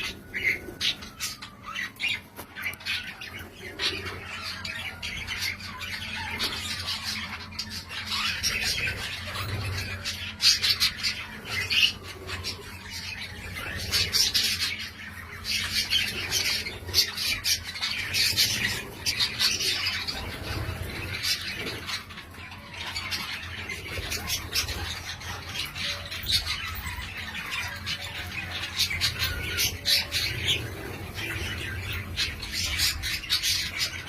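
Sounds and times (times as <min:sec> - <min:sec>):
bird squawks and chirps: 0:00.0 - 0:34.0
budgerigars chattering and warbling: 0:00.0 - 0:34.0.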